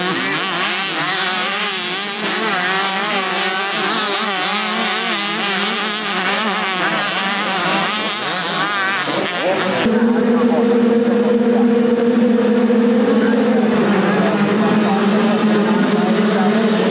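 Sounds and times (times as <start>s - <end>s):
motocross bike engines revving: 0.0s - 16.9s.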